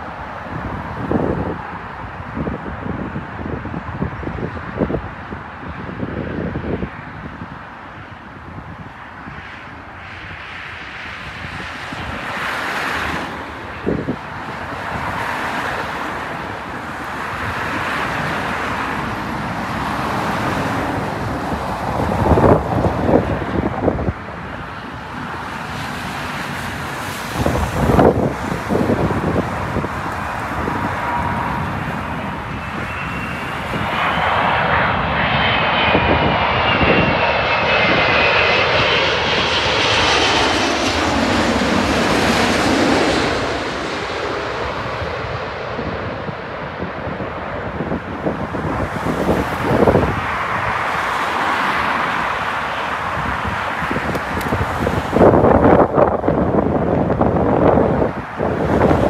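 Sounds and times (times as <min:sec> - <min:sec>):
jet engines rushing: 0:00.0 - 0:59.0.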